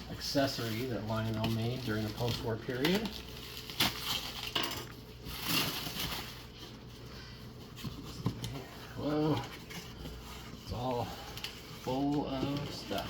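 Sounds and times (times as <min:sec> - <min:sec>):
rustling cardboard and paper: 0:00.0 - 0:13.0.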